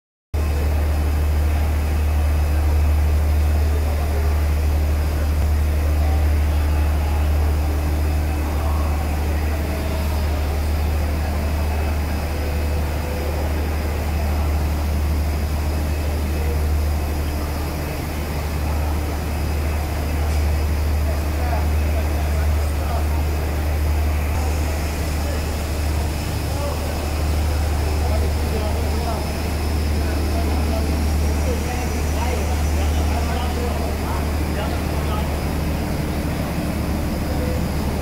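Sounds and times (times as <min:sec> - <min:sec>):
factory noise: 0:00.4 - 0:38.0
machine drone with low hum: 0:00.4 - 0:38.0.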